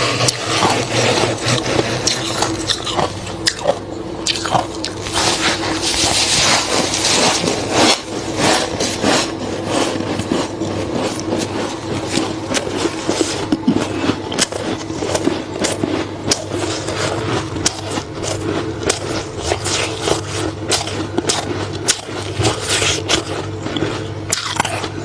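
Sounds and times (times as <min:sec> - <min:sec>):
freezer frost crunching: 0:00.0 - 0:25.0
steady low hum: 0:00.0 - 0:25.0.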